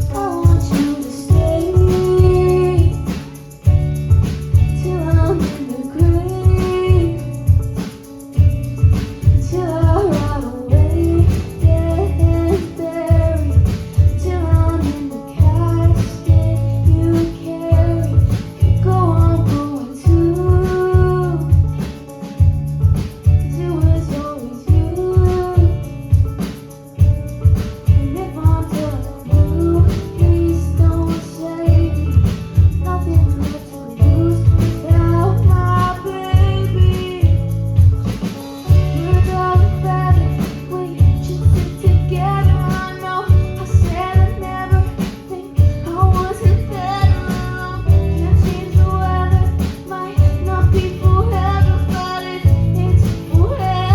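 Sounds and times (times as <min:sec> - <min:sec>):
person singing: 0:00.0 - 0:03.9, 0:04.5 - 0:08.4, 0:09.1 - 0:22.4, 0:23.4 - 0:26.1, 0:27.9 - 0:53.9.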